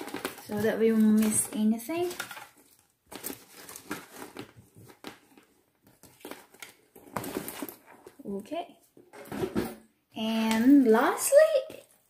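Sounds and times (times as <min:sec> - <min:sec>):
rustling and crinkling: 0:00.0 - 0:09.7.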